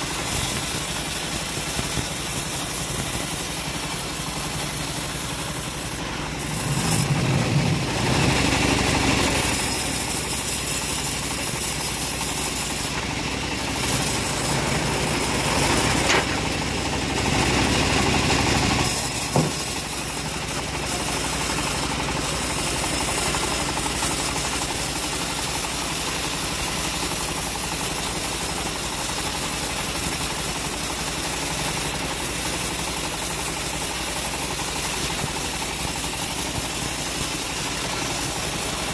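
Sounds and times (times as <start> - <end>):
bandsaw sawing through log: 0.0 - 38.9.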